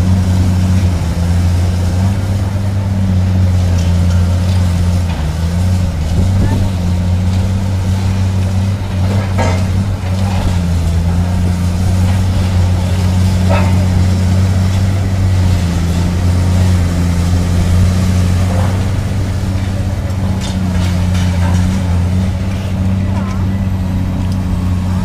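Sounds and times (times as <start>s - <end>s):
excavator diesel engines humming: 0.0s - 25.0s
debris clanking and crunching: 0.1s - 24.8s.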